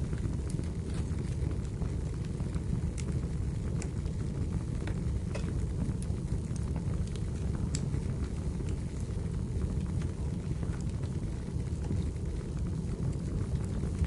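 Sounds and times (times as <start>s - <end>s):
fire rumbling: 0.0s - 14.0s
firewood crackling and popping: 0.0s - 14.0s.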